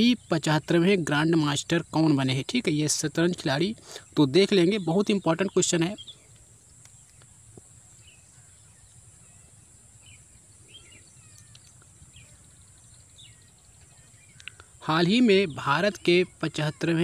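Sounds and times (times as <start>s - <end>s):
high-pitched hiss: 0.0s - 17.0s
bird chirps: 3.3s - 17.0s.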